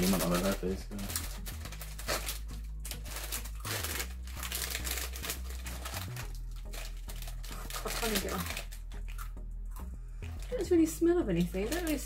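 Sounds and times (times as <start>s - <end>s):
plastic snack packet crinkling: 0.0s - 9.3s, 11.4s - 12.0s.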